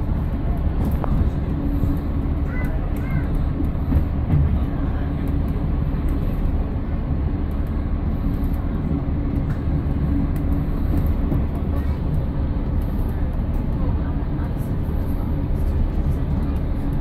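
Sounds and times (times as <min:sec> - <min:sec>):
train engine and wheels rumble: 0:00.0 - 0:17.0.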